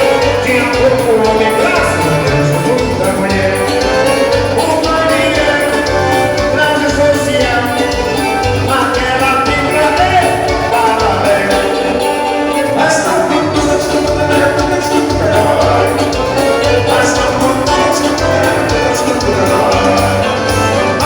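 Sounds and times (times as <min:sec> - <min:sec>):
band playing latin dance music: 0:00.0 - 0:21.0
person singing: 0:00.0 - 0:21.0.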